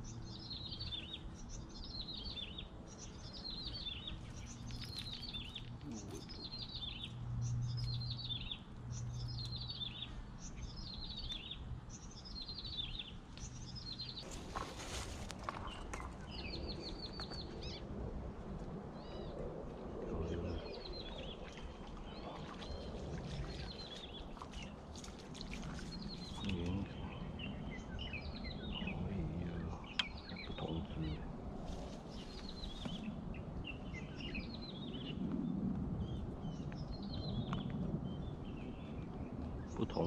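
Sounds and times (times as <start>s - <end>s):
birds chirping: 0.0s - 18.0s, 18.8s - 40.0s.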